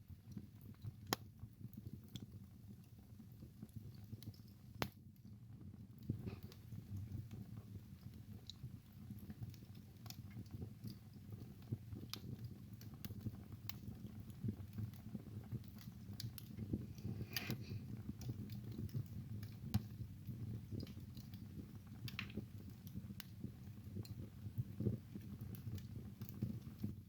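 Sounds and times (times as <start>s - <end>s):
fire crackles and pops: 0.0s - 27.0s
fire flames rumbling: 0.0s - 27.0s.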